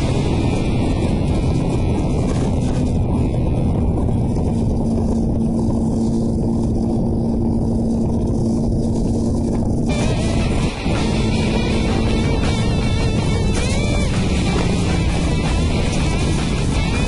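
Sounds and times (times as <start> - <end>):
motorcycle engine running: 0.0 - 17.0
steady hum: 0.0 - 17.0
wind rush on microphone: 0.0 - 17.0.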